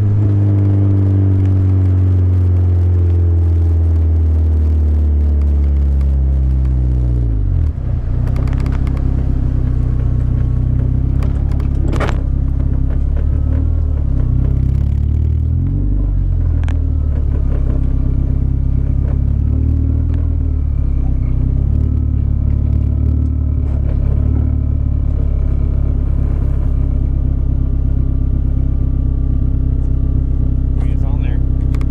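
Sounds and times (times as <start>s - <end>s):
car engine exhaust drone: 0.0s - 31.9s.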